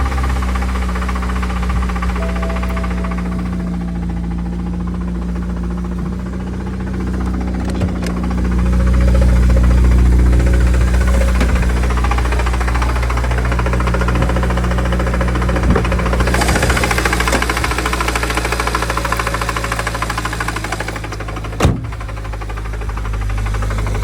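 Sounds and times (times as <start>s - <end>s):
car engine idling with knock: 0.0s - 24.0s.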